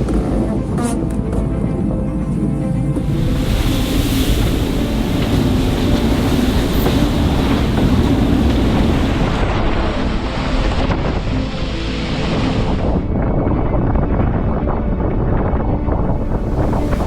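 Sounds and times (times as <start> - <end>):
water rushing past a yacht: 0.0 - 17.0
wind rushing: 0.0 - 17.0.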